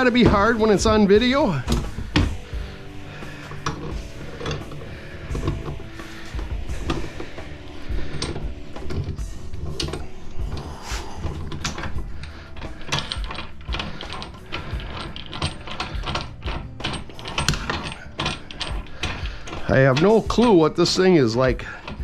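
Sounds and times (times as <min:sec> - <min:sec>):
hand tools clanking on metal: 0:00.0 - 0:22.0.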